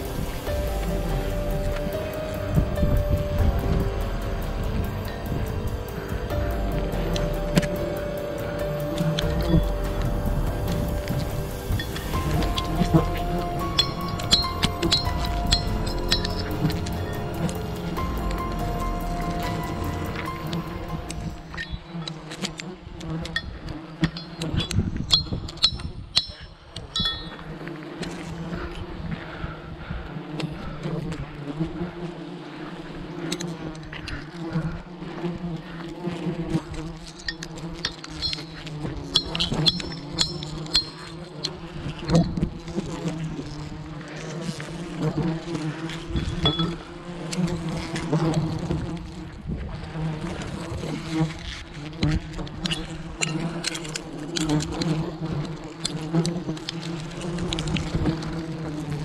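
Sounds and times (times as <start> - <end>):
bees buzzing: 0.0 - 59.0.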